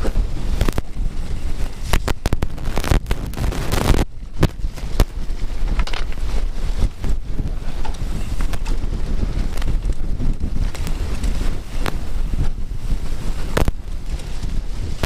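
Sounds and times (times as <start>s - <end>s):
bike clattering over bumps: 0.0s - 15.0s
bike tyres rumbling: 0.0s - 15.0s
wind buffeting microphone: 0.0s - 15.0s.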